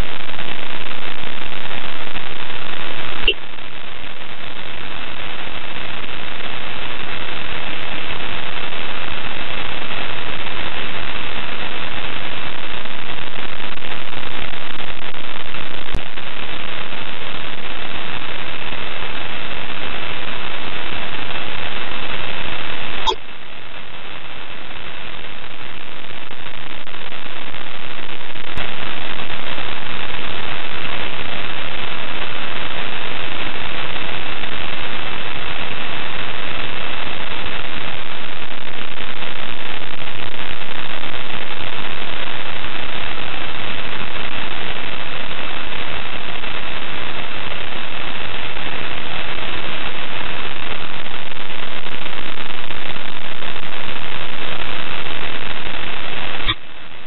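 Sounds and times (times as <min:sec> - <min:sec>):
radio static hiss: 0:00.0 - 0:57.0.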